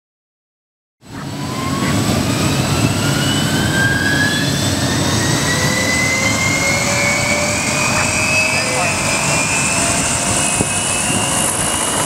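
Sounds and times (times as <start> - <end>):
helicopter rotors rumbling: 1.0 - 12.0
turbine engines whining: 1.0 - 12.0.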